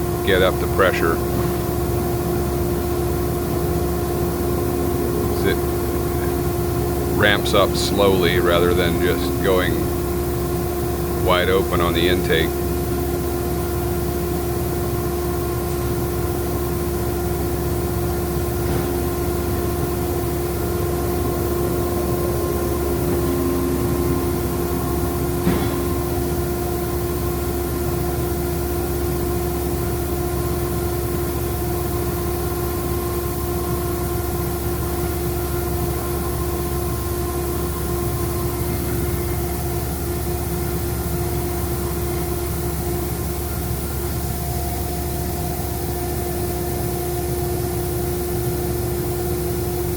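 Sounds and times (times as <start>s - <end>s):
air compressor humming and whining: 0.0s - 49.9s.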